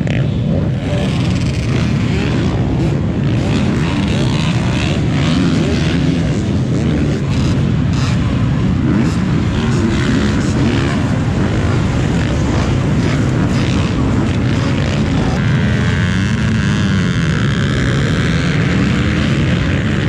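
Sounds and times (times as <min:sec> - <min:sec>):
motorcycle engines revving: 0:00.0 - 0:20.0
steady low rumble: 0:00.0 - 0:20.0.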